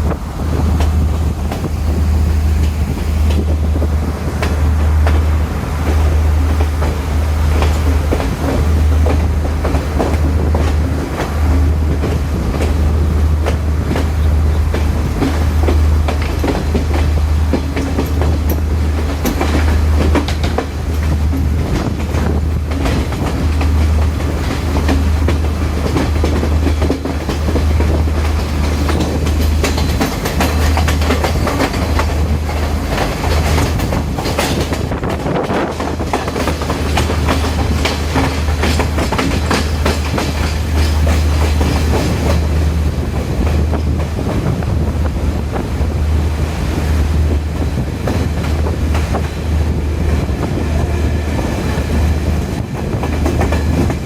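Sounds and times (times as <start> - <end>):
train rumbling at speed: 0.0 - 54.0
wheels clattering over rail joints: 0.0 - 54.0.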